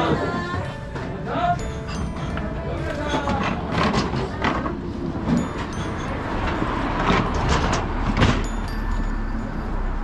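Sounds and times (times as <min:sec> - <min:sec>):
vehicles passing: 0:01.0 - 0:10.0
road traffic rumble: 0:01.1 - 0:10.0.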